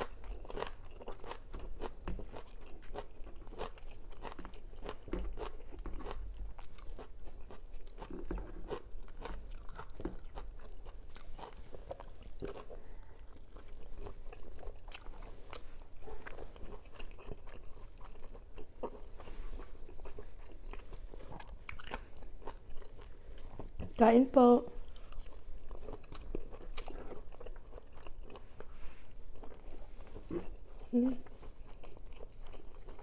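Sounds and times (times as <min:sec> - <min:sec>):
person chewing food: 0:00.0 - 0:24.0, 0:24.7 - 0:33.0.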